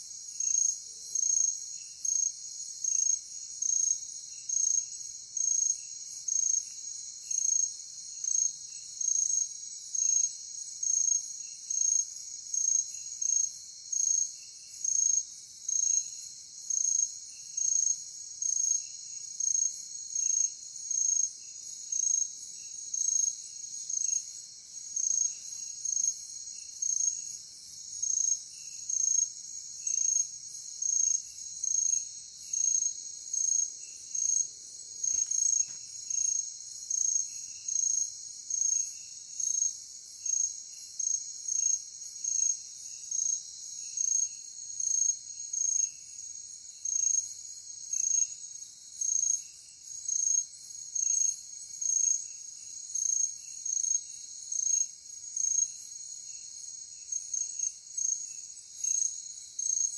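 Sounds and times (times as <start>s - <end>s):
loud insect chirp: 0.0s - 59.9s.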